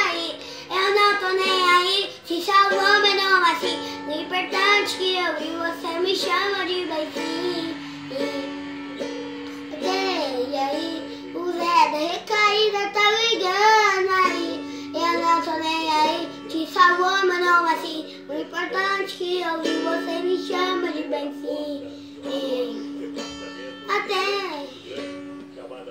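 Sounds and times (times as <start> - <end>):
boy singing: 0.0 - 25.0
acoustic guitar strumming: 0.0 - 25.9.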